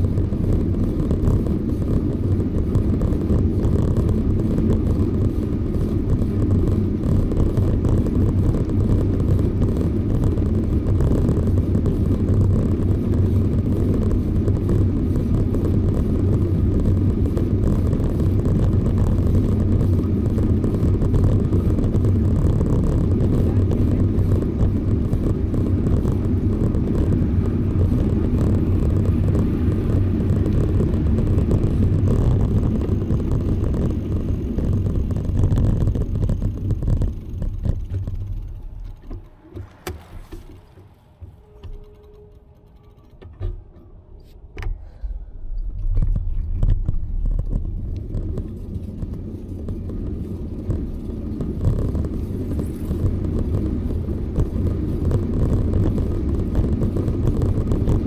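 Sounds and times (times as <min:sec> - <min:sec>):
bicycle road noise rumble: 0:00.0 - 0:58.0
wind noise on microphone: 0:00.0 - 0:58.0.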